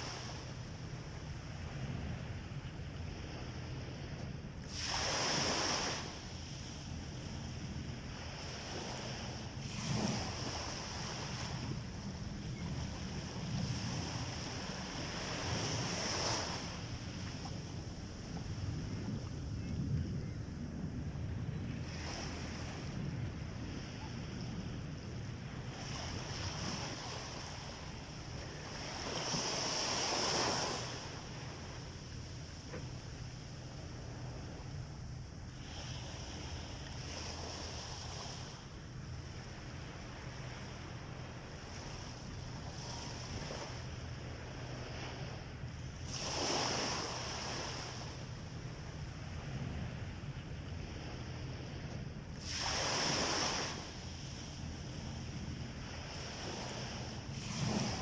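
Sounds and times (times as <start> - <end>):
waves breaking on a beach: 0.0 - 58.0
wind on the microphone: 0.0 - 58.0.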